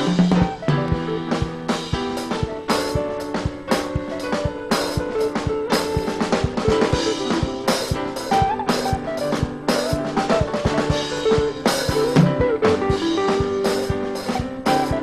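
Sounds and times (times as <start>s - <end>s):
band playing instrumental: 0.0s - 15.0s
drum kit beat: 0.0s - 15.0s.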